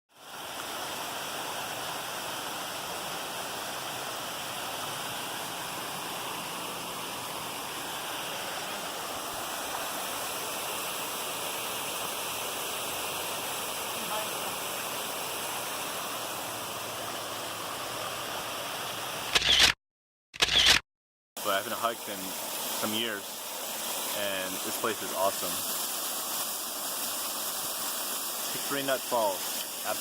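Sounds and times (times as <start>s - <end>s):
waterfall rushing: 0.2s - 19.3s, 21.4s - 30.0s.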